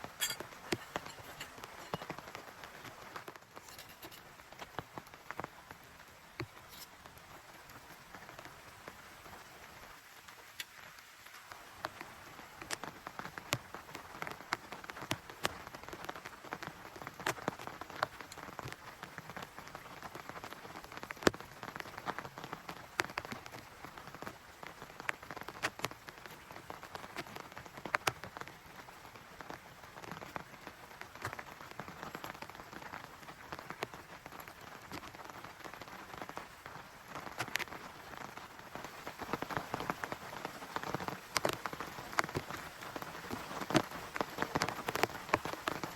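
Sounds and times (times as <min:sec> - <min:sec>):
raindrops ticking close by: 0:00.0 - 0:45.9
steady rain patter: 0:00.0 - 0:45.9.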